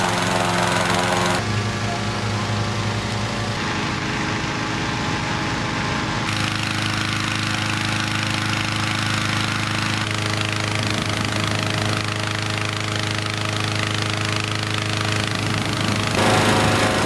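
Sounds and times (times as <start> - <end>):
inflator fan engine drone: 0.0 - 17.0.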